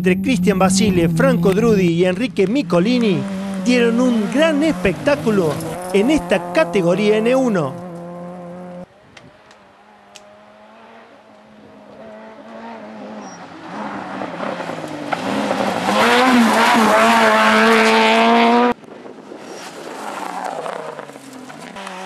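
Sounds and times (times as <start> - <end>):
rally car engine revving: 0.0 - 18.8, 19.4 - 22.0.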